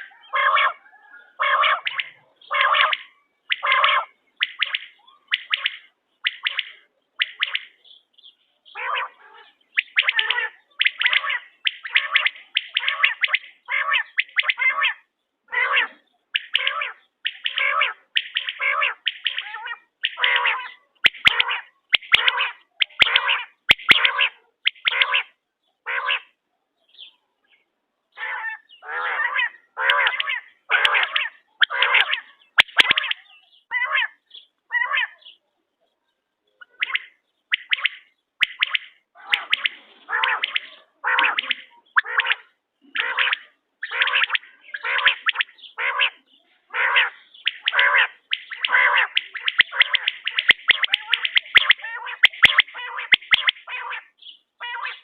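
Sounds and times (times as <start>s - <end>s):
quail calling: 0.0s - 26.4s, 28.1s - 35.4s, 36.6s - 55.0s.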